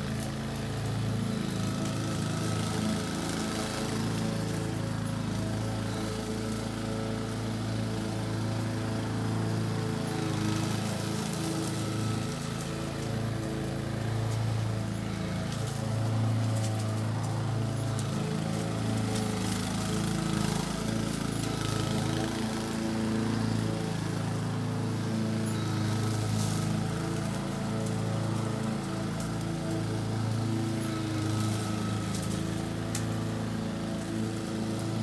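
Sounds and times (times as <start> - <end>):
lawnmower engine running: 0.0 - 35.0.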